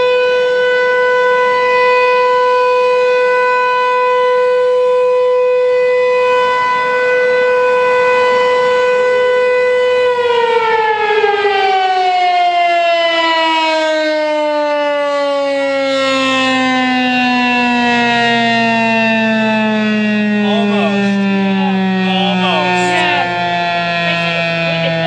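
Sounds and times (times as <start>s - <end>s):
outdoor warning siren: 0.0s - 25.0s.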